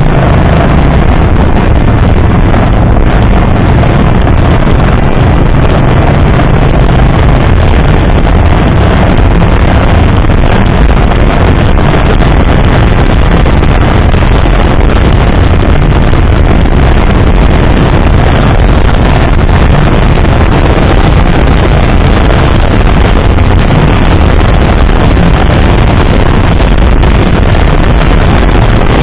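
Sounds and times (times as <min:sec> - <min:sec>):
bike ride rumble: 0:00.0 - 0:29.0.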